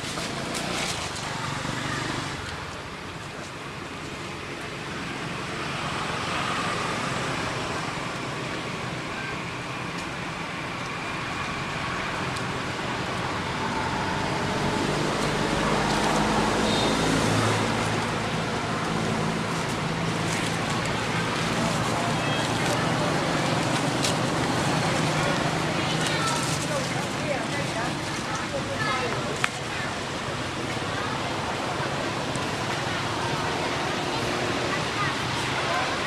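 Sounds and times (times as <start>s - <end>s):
road traffic: 0.0s - 36.0s.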